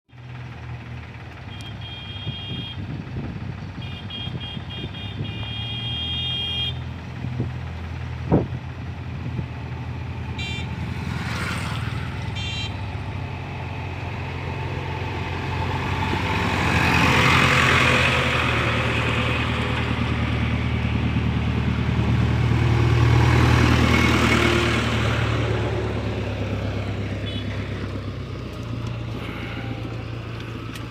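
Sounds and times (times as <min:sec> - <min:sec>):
diesel engine running: 0:00.1 - 0:30.9.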